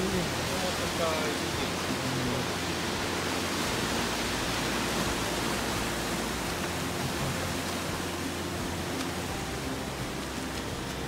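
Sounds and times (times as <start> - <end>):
fast mountain stream rushing: 0.0 - 11.0.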